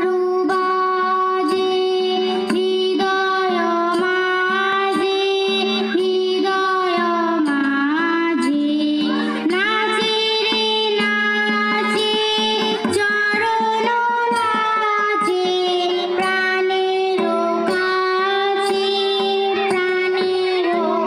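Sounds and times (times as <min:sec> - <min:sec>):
girl singing: 0:00.0 - 0:21.0
harmonium: 0:00.0 - 0:21.0
hand drum strokes: 0:01.4 - 0:21.0.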